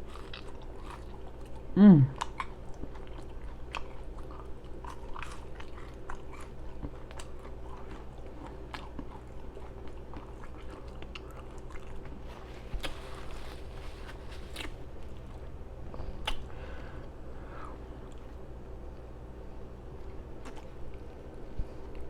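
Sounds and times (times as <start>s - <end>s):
person chewing with lip-smacking: 0.0s - 19.1s, 19.9s - 22.0s.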